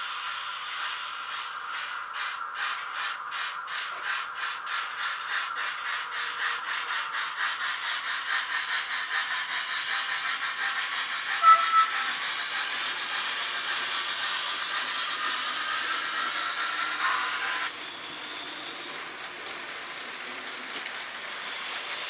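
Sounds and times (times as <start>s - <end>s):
model train running: 0.0s - 22.0s.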